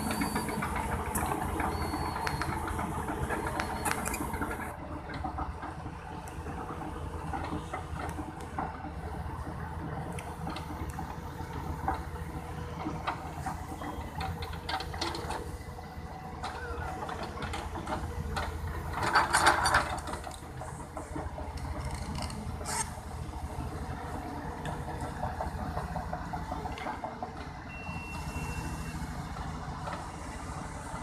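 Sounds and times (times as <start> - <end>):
excavator running: 0.0 - 31.0.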